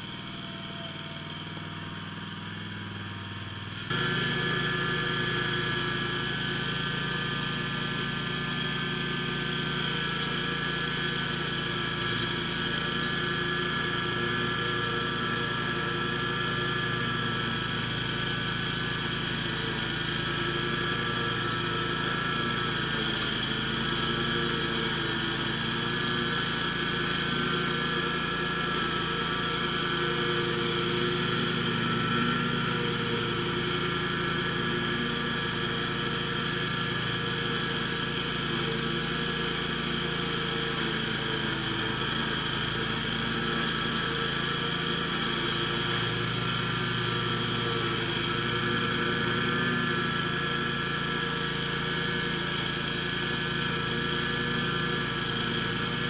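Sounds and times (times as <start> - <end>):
riding mower engine running: 0.0 - 56.0.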